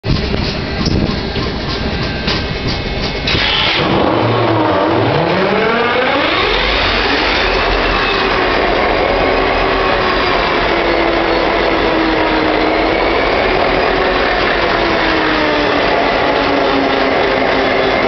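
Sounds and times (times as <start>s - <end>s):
diesel locomotive engine revving: 0.1s - 18.0s
turbocharger whine: 3.3s - 18.0s.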